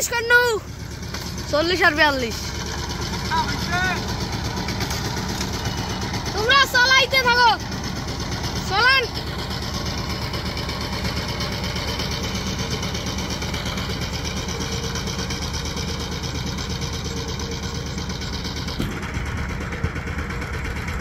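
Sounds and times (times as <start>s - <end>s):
power tiller engine chugging: 0.0s - 21.0s.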